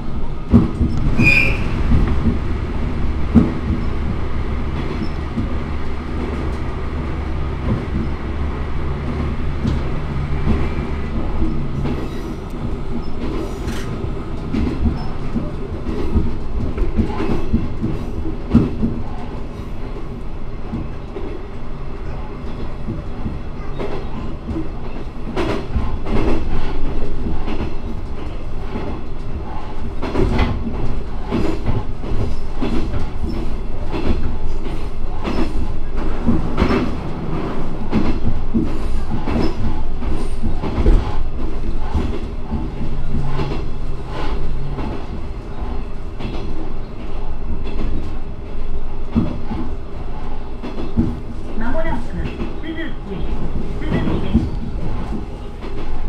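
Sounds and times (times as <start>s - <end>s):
diesel railcar engine drone: 0.0s - 56.0s.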